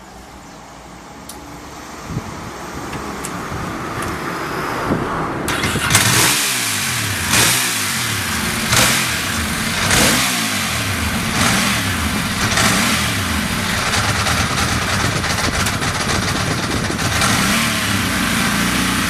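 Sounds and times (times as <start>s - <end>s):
motorcycle engine revving: 1.4s - 19.0s.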